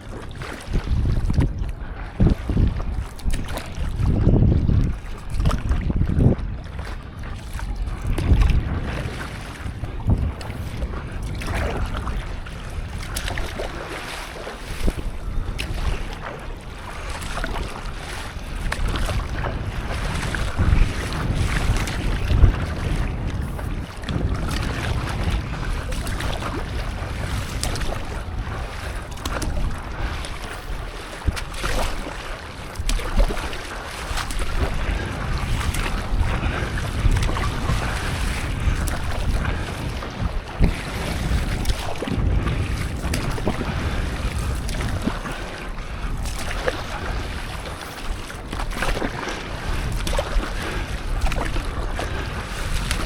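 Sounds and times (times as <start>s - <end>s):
water sloshing and splashing: 0.0s - 53.0s
wind buffeting microphone: 0.0s - 53.0s.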